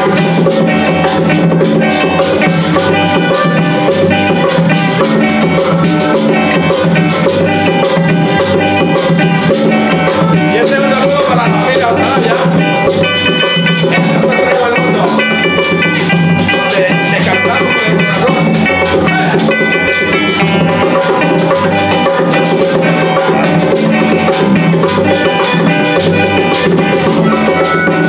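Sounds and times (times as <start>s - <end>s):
band playing latin folk music: 0.0s - 28.0s.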